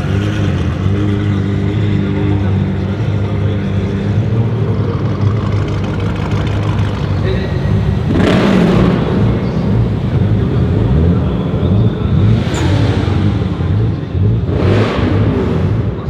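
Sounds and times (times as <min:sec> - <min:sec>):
car engine running loudly: 0:00.0 - 0:16.0.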